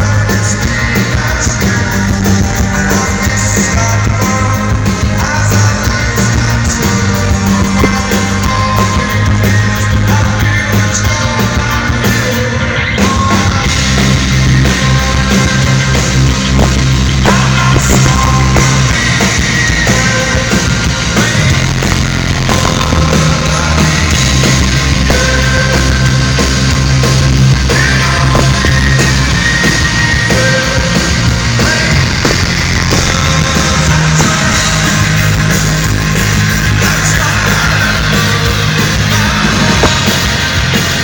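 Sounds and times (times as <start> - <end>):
live rock band playing loudly: 0.0 - 41.0
sustained bass notes: 0.0 - 41.0.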